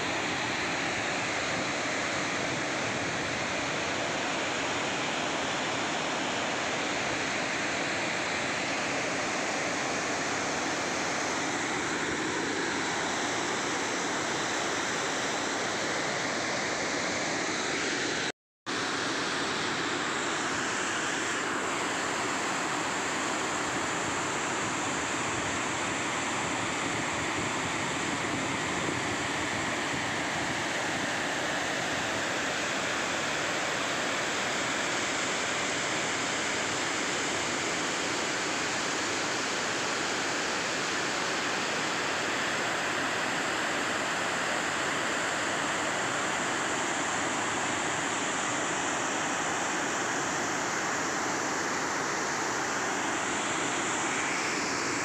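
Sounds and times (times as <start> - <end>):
water rushing over a weir: 0.0 - 55.0.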